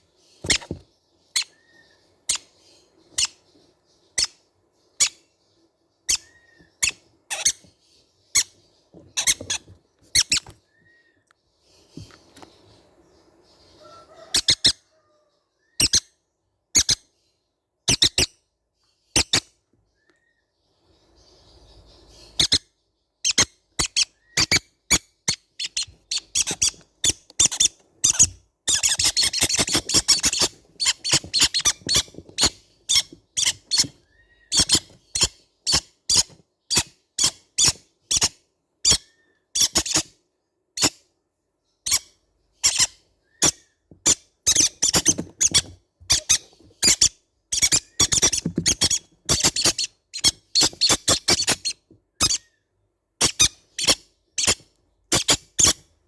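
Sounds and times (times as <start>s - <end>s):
parrot chicks squeaking: 0.0s - 5.3s, 6.0s - 11.2s, 13.6s - 17.1s, 17.9s - 18.4s, 19.1s - 19.5s, 21.3s - 40.2s, 40.8s - 41.0s, 41.8s - 52.6s, 53.2s - 56.0s.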